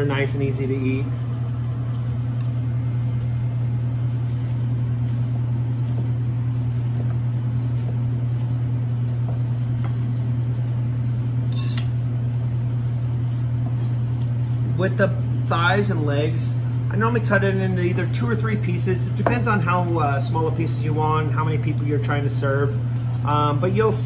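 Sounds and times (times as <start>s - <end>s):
kitchen equipment hum: 0.0s - 24.0s.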